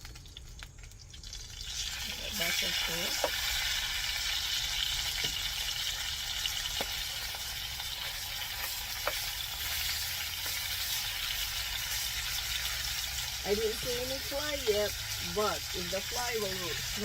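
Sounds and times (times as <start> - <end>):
fish sizzling in hot oil: 0.0 - 17.0.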